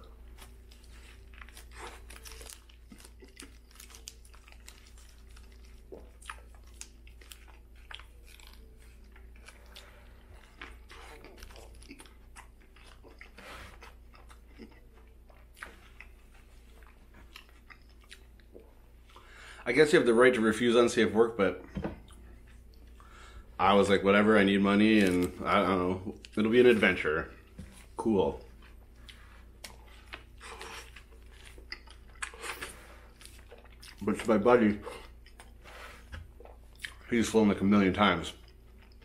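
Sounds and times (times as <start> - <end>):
man chewing food: 0.0 - 19.6, 21.6 - 23.6, 24.8 - 37.1, 38.4 - 39.0.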